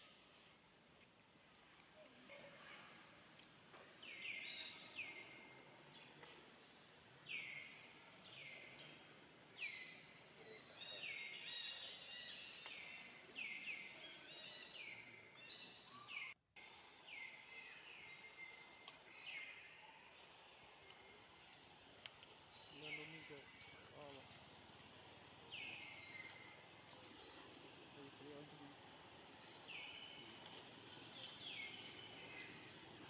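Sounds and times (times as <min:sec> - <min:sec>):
faint outdoor hiss: 0:00.0 - 0:33.0.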